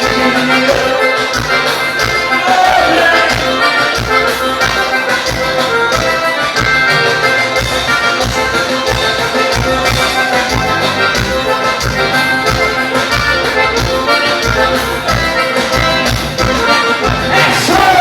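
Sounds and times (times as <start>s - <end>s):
instrumental dance music: 0.0s - 18.0s.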